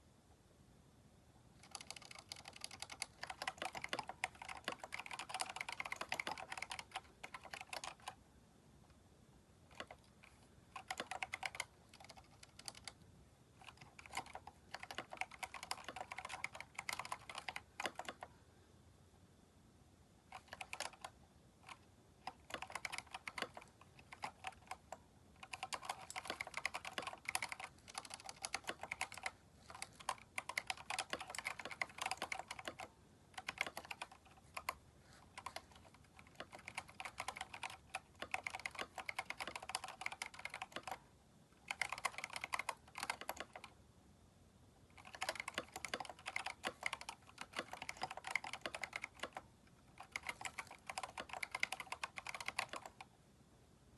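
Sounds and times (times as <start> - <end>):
mechanical keyboard typing: 1.6 - 8.2, 9.7 - 13.0, 13.6 - 18.3, 20.3 - 43.8, 44.9 - 53.1.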